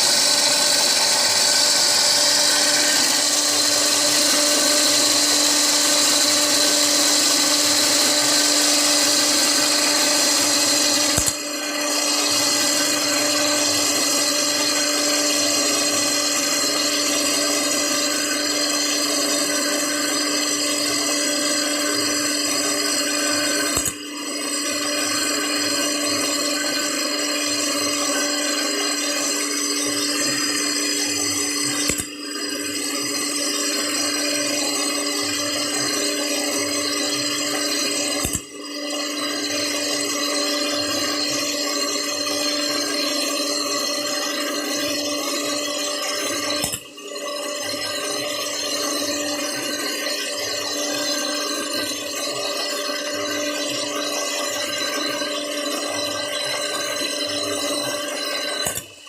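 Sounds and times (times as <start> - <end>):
machine motor whirring hum: 0.0 - 59.0.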